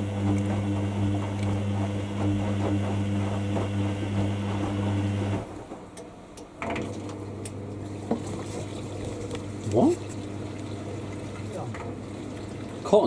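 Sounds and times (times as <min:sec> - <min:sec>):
washer dryer humming: 0:00.0 - 0:13.0.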